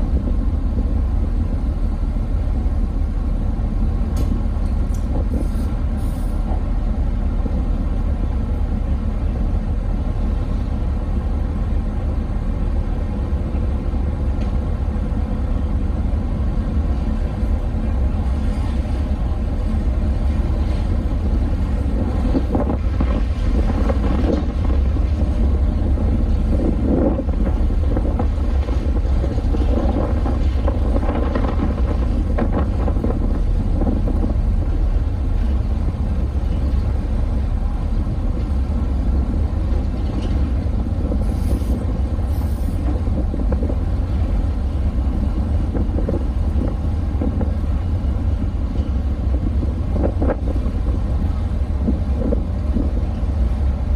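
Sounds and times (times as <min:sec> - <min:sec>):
ship engines low rumble: 0:00.0 - 0:53.9
wind buffeting microphone: 0:00.0 - 0:53.9.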